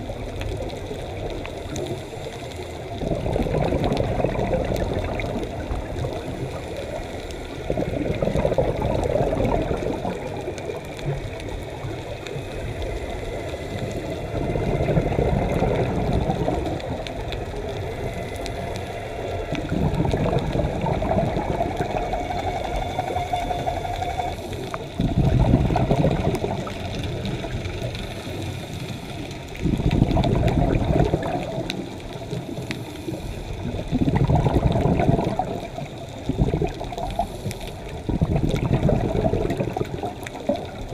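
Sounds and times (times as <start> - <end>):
exhaled bubbles rumbling: 0.0 - 40.9
scuba breathing underwater: 1.4 - 40.9.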